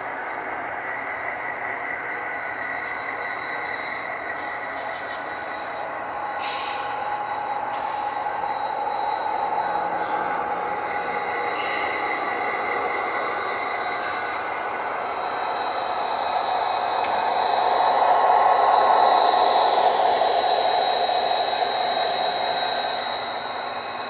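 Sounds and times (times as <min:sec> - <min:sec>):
model locomotives whirring: 0:00.0 - 0:24.0.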